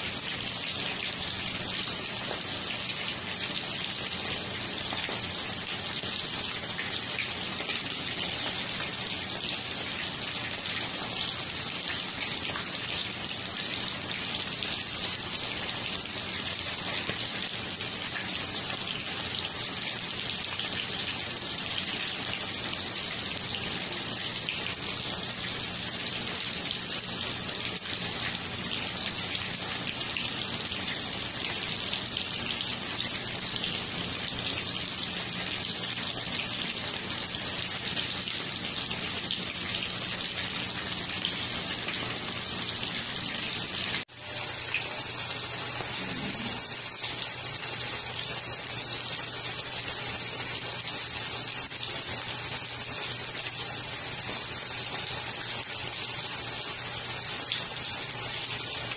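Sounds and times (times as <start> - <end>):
chicken sizzling in hot oil: 0.0 - 58.9.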